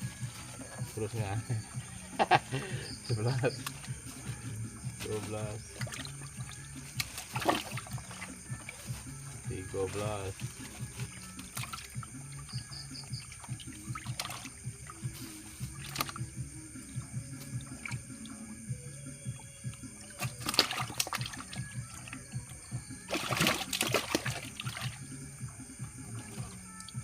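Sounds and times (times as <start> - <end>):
faint background music: 0.0 - 27.0
water splashing and sloshing: 0.0 - 27.0.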